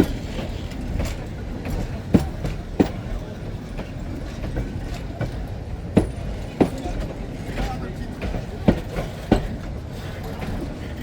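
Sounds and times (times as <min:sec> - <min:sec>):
train rumbling: 0:00.0 - 0:11.0
train wheels clacking: 0:00.0 - 0:11.0.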